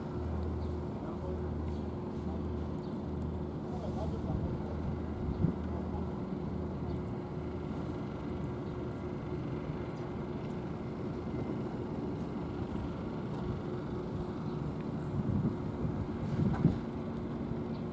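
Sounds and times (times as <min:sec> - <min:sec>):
engine humming steadily: 0:00.0 - 0:17.9.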